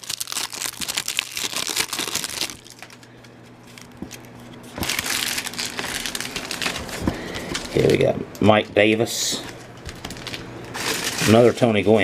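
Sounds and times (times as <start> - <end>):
wrapper tearing and crinkling: 0.0 - 8.0, 9.8 - 11.7.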